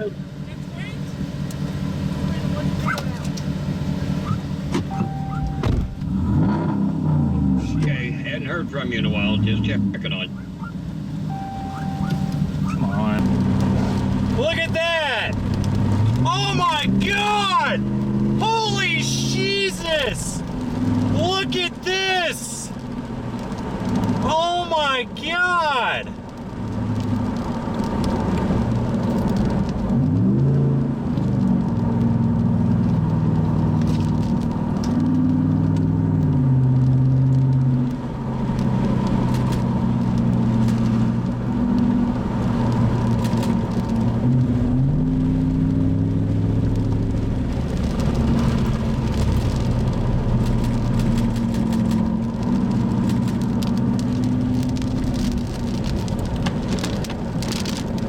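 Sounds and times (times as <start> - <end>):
car engine accelerating: 0.0 - 25.1, 26.0 - 58.0
road and wind hiss: 0.0 - 58.0.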